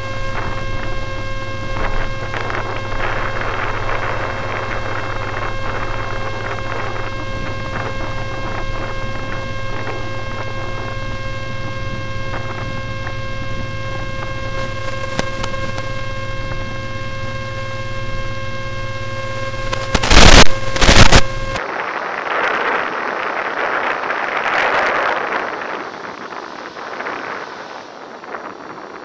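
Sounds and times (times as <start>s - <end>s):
electrical hum with whining tones: 0.0s - 29.0s
faint crackles: 0.0s - 29.0s
loud blasts of noise: 0.0s - 29.0s.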